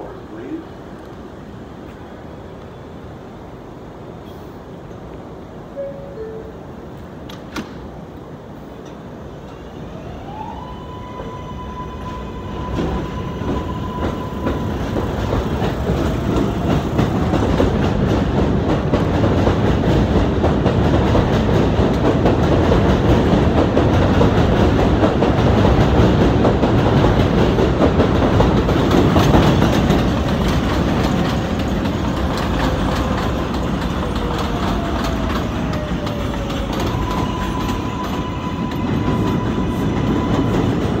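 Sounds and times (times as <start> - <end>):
wheel and rail noise: 0.0 - 41.0
subway train doors clacking shut: 4.2 - 41.0.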